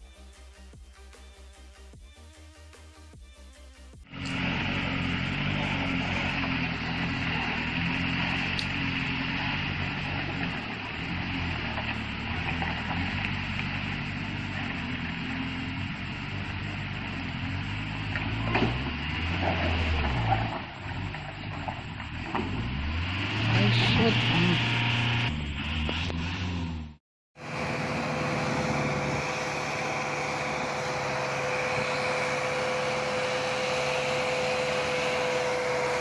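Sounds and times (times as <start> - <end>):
truck engine running under load: 4.0 - 36.0.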